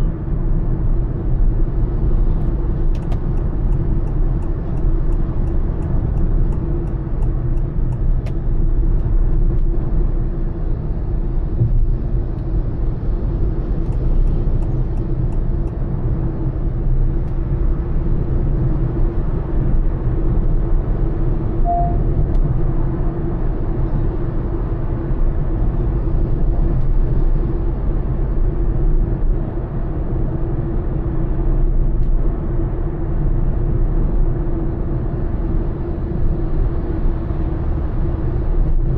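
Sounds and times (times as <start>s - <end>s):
road and engine noise: 0.0s - 38.9s.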